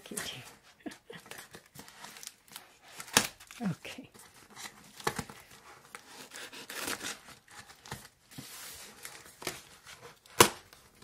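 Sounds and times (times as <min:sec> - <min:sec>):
tape and cardboard ripping: 0:01.3 - 0:03.8, 0:04.5 - 0:10.9.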